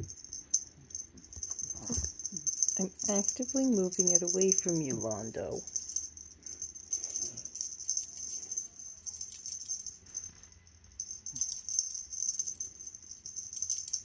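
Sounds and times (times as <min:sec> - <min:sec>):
toy jingling rattle: 0:00.0 - 0:14.0.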